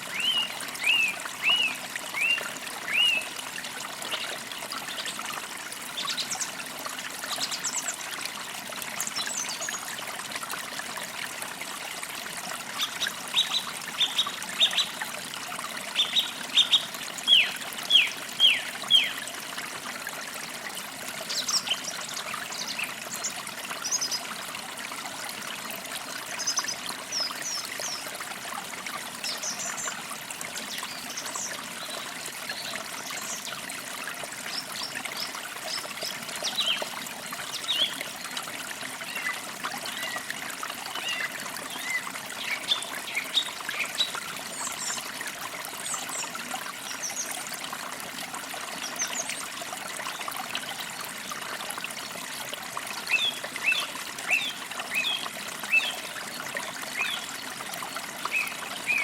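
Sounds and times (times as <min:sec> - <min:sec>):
creek splashing over stones: 0:00.0 - 0:59.0.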